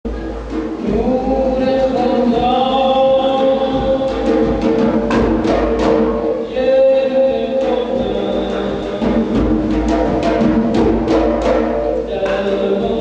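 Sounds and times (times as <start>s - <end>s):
music with singing voices: 0.1s - 13.0s
sharp percussion strokes: 0.1s - 13.0s.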